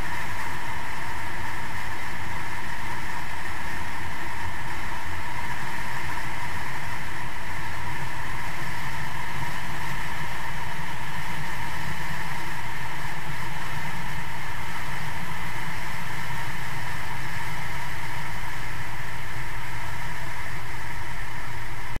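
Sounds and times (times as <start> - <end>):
outboard motor running fast: 0.0 - 22.0
rushing water noise: 0.0 - 22.0.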